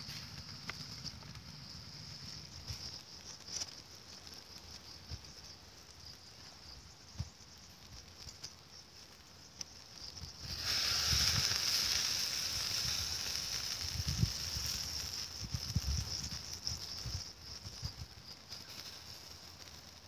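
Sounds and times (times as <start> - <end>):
meat sizzling on a grill: 0.0 - 20.0.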